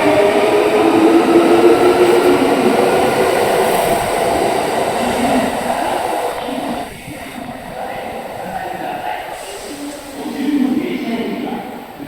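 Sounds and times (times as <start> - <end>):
train motor hum: 0.0 - 10.2
train wheel and rail rumble: 0.0 - 12.0.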